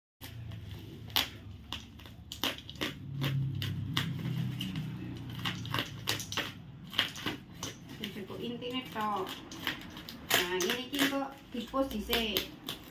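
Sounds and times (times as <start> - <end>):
packaging crinkling and tearing: 0.2 - 12.9.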